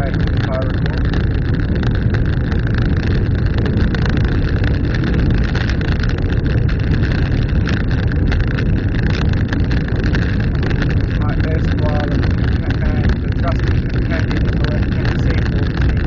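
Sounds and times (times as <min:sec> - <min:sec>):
small stones ticking and rattling: 0:00.0 - 0:16.0
tyres and engine rumbling: 0:00.0 - 0:16.0.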